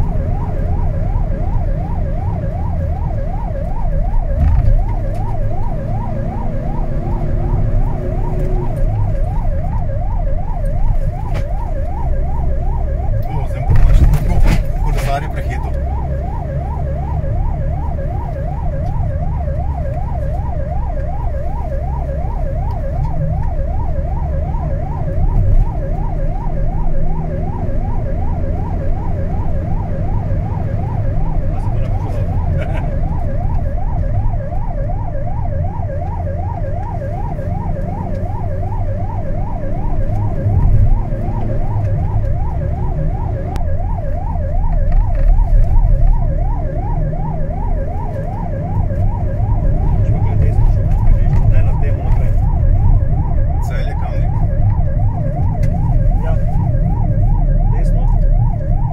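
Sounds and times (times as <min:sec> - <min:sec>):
engine and road rumble: 0:00.0 - 0:58.9
siren yelping: 0:00.0 - 0:58.9.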